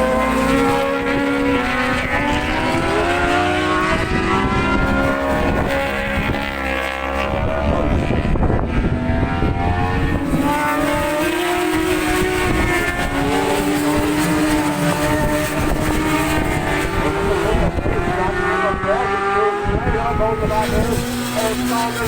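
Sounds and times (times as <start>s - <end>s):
racing motorcycles passing: 0.0s - 22.0s.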